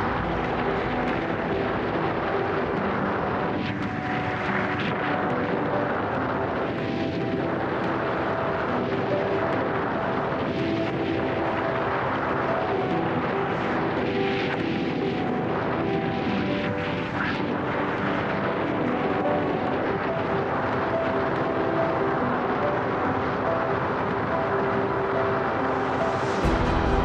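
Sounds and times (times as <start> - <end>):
faint background music: 0.0 - 27.0
wind buffeting microphone: 0.0 - 27.0.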